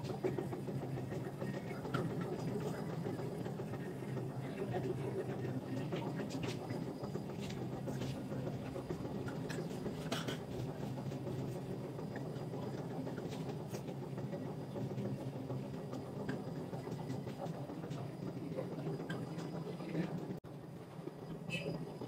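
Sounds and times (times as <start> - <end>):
conveyor machine hum: 0.0 - 22.0.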